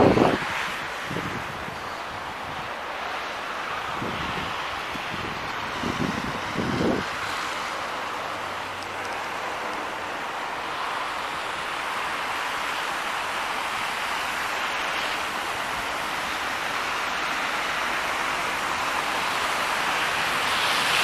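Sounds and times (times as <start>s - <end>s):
car tyres on slushy road: 0.0s - 21.0s.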